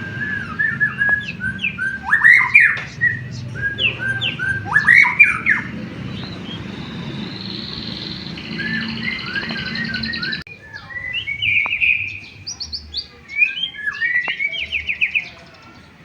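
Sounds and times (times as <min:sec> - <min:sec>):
bird singing whistles: 0:00.0 - 0:15.9.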